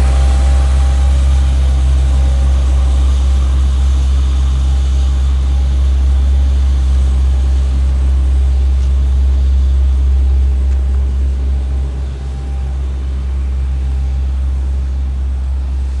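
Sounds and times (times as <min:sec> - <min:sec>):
road roller engine rumble: 0:00.0 - 0:16.0.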